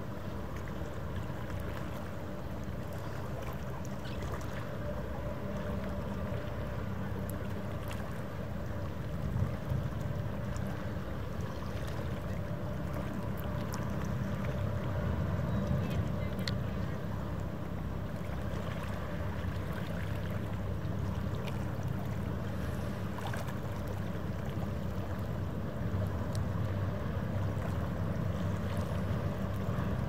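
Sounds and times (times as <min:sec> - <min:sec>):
faint hum: 0:00.0 - 0:30.0
ship engines droning: 0:00.0 - 0:30.0.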